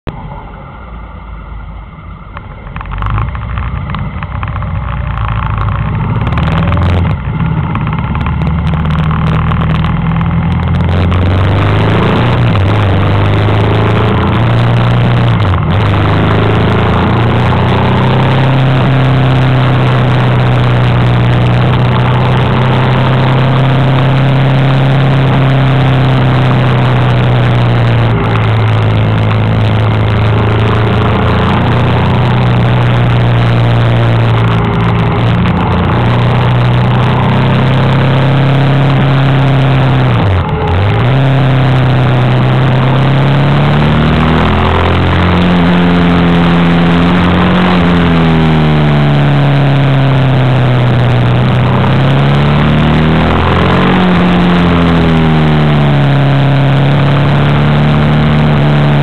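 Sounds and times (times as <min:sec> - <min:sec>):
motorcycle engine accelerating: 0:00.0 - 0:59.0
wind and road rush: 0:00.0 - 0:59.0.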